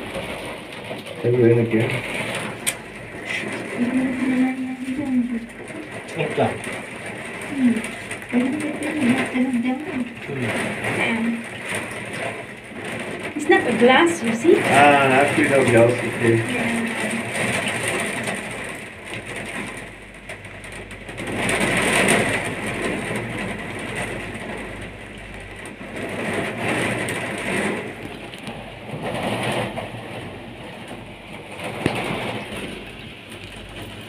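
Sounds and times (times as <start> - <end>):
gusting wind: 0.0 - 34.0
rain beating on gondola: 0.0 - 34.0.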